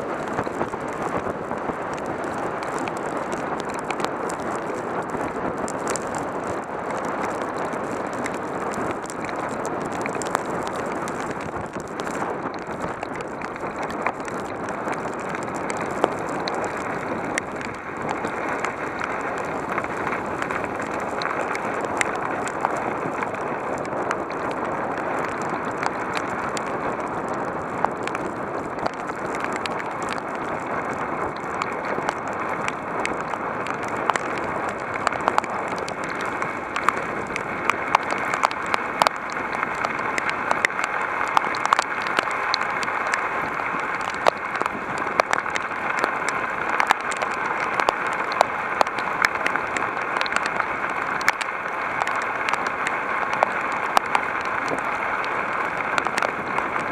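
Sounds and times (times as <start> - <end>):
heavy rain hissing: 0.0 - 56.9
raindrops ticking on hard surfaces: 0.0 - 56.9.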